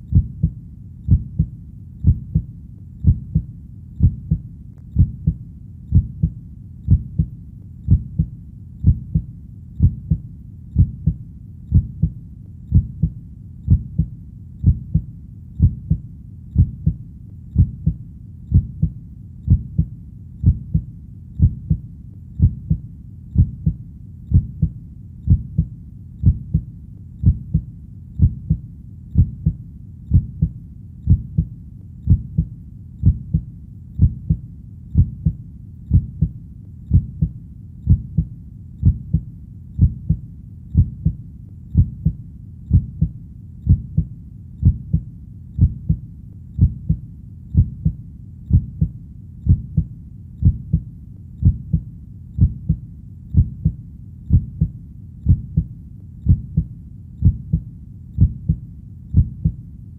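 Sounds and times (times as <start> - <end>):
heartbeat thumps: 0.0 - 59.6
steady low noise: 0.0 - 59.9.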